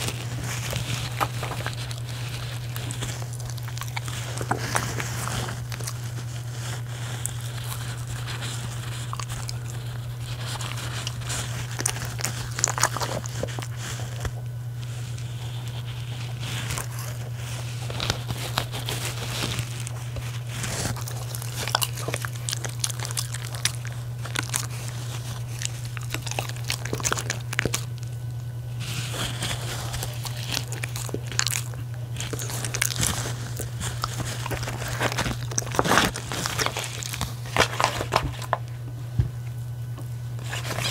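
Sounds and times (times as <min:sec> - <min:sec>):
plastic wrapper crinkle: 0:00.0 - 0:38.7, 0:40.4 - 0:40.9
dogs crunching food: 0:00.0 - 0:40.9
steady low hum: 0:00.0 - 0:40.9.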